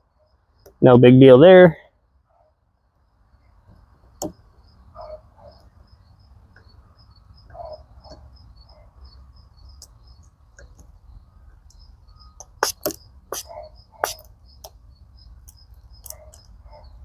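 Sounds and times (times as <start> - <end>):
cricket chirping: 0.0 - 0.8, 2.4 - 17.0.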